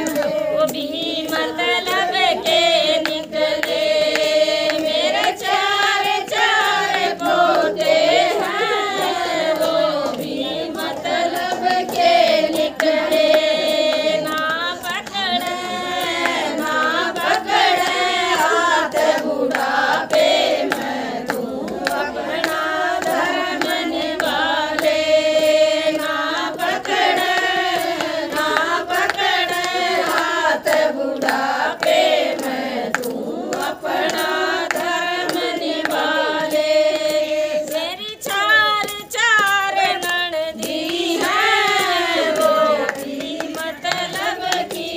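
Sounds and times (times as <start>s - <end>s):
hand claps: 0.0s - 44.9s
women singing devotional song: 0.0s - 44.9s.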